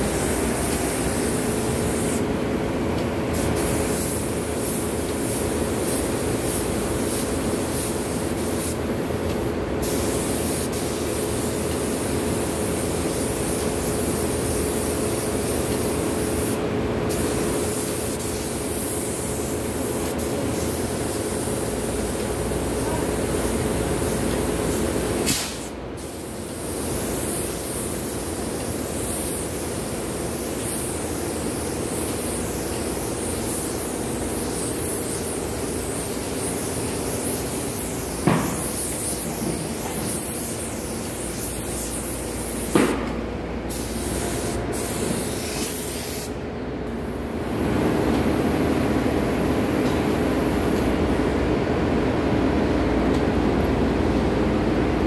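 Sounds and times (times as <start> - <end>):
paint spray gun hissing: 0.0 - 2.2, 3.4 - 46.4.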